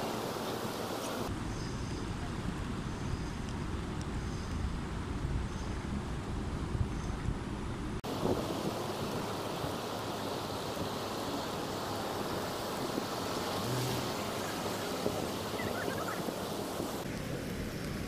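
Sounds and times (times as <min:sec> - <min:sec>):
city traffic noise: 0:00.0 - 0:18.0.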